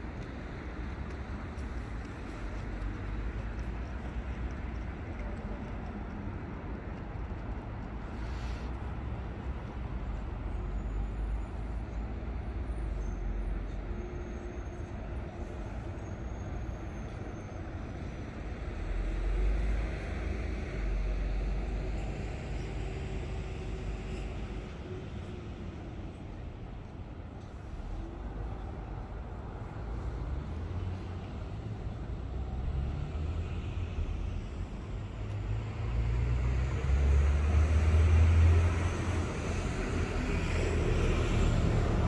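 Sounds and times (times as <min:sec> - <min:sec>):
deep low city rumble: 0:00.0 - 0:42.0.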